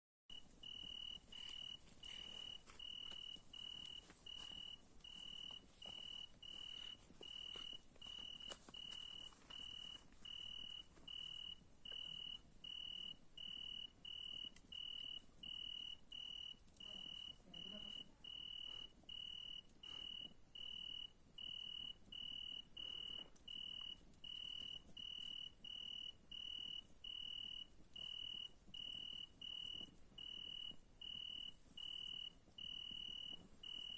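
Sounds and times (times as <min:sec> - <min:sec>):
campfire crackling: 0:00.3 - 0:17.4, 0:18.3 - 0:33.9
cricket chirping: 0:00.3 - 0:33.9.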